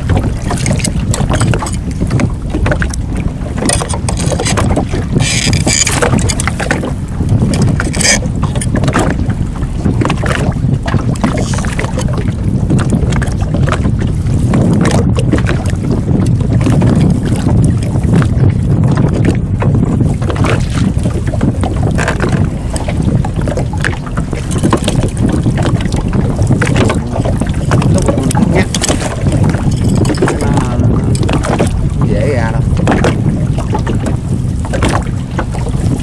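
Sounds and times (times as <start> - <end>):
knocks and splashes: 0.0 - 36.0
wind on microphone: 0.0 - 36.0.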